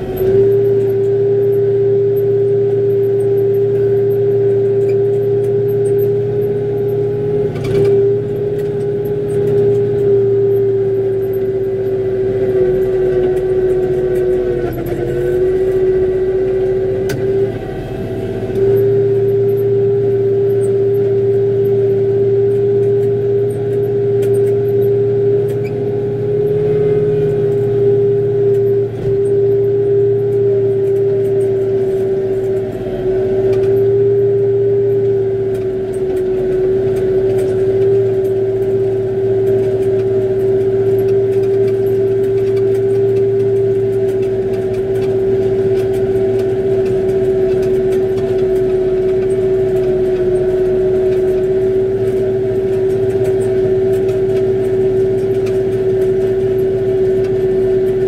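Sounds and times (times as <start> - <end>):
snowblower high whine: 0.0 - 58.0
tractor diesel engine running: 0.0 - 58.0.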